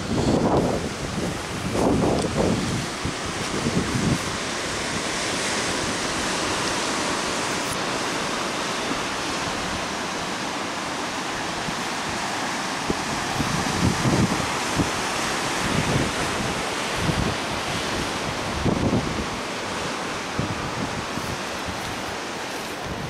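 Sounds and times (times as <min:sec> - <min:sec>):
ocean surf breaking on rocks: 0:00.0 - 0:23.0
wind buffeting microphone: 0:00.0 - 0:23.0.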